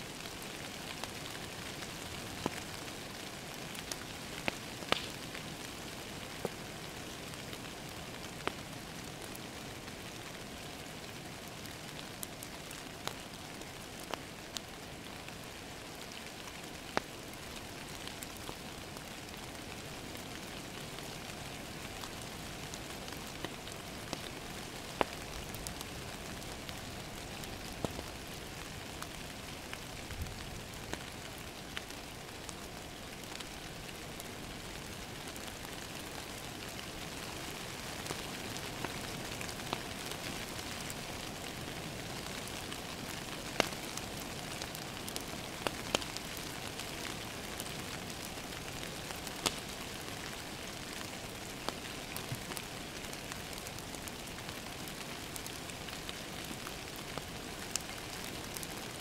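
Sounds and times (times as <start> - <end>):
rain pattering against a window: 0.0 - 59.0
wood fire crackling and popping: 0.1 - 59.0.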